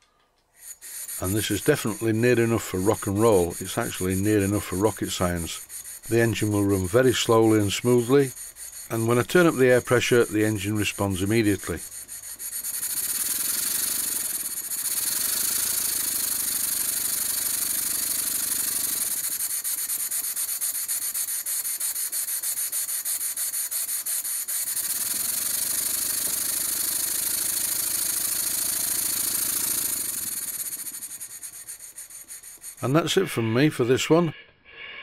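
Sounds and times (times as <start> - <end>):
model steam engine running: 0.6 - 34.1.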